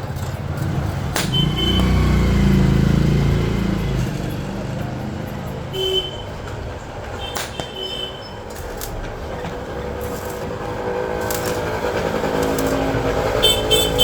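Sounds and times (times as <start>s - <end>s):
vehicle engine passing: 0.0s - 7.1s, 8.9s - 14.0s.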